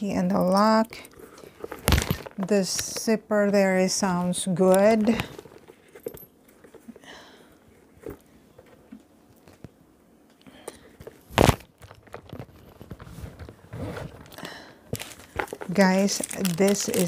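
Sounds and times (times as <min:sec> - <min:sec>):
handbag and packaging rustling: 0:00.4 - 0:09.8, 0:10.9 - 0:17.0.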